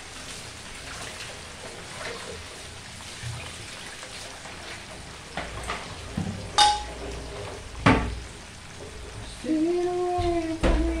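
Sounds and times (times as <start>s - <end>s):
food sizzling in hot oil: 0.0s - 10.2s.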